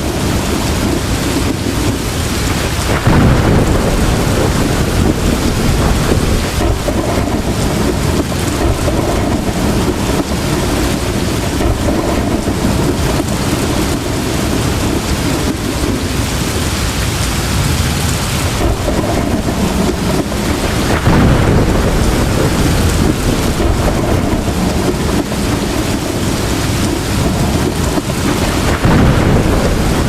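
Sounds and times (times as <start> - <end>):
heavy rain pouring: 0.0 - 30.0
low rumble of thunder: 0.0 - 30.0.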